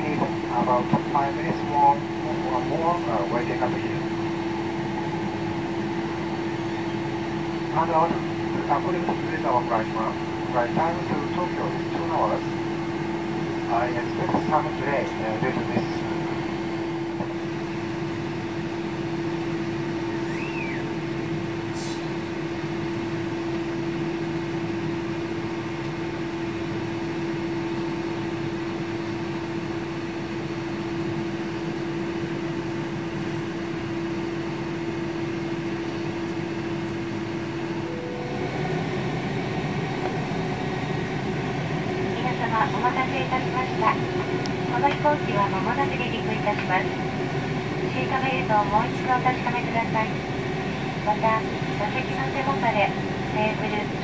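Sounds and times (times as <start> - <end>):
jet engines idling: 0.0 - 54.0
steady low hum: 0.0 - 54.0.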